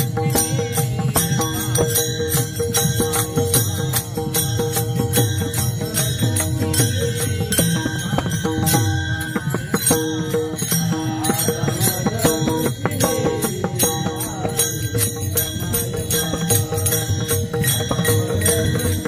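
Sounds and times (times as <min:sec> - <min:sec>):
person chanting: 0:00.0 - 0:19.0
steady percussive beat: 0:00.0 - 0:19.0.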